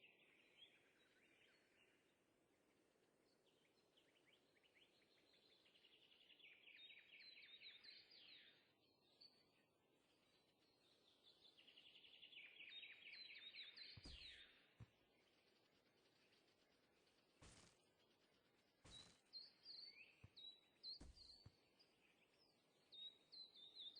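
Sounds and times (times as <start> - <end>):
songbird singing faintly: 0.0 - 23.9.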